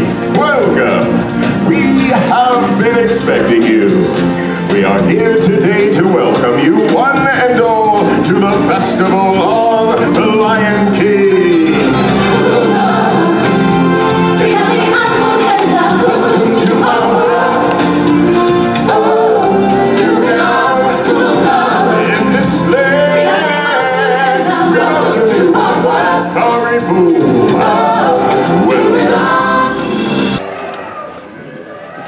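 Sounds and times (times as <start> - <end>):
person singing into microphone: 0.0 - 30.4
amplified backing music: 0.0 - 30.5.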